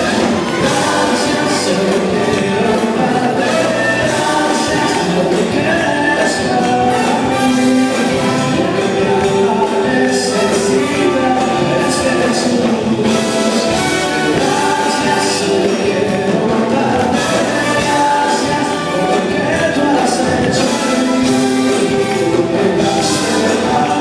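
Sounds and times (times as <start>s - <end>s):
band rhythm: 0.0s - 24.0s
horn section playing: 0.0s - 24.0s
percussion strokes: 0.0s - 24.0s.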